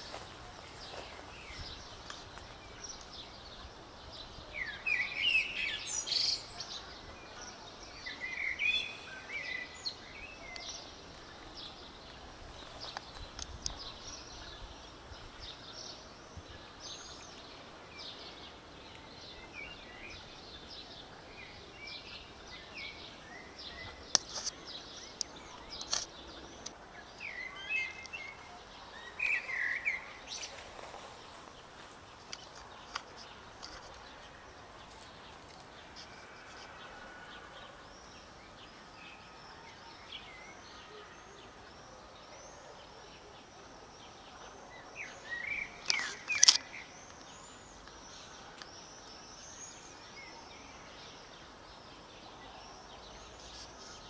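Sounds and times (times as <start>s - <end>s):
outdoor background hiss: 0.0s - 54.0s
small birds chirping: 0.0s - 54.0s.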